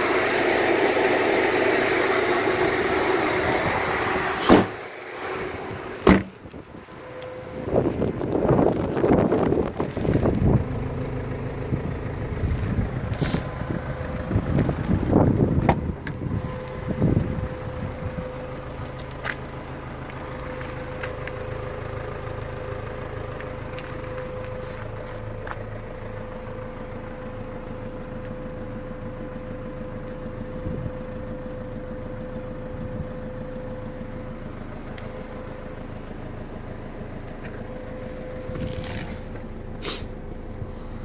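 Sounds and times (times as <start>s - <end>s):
constant whining tone: 0.0s - 41.0s
van engine idling: 0.0s - 41.0s.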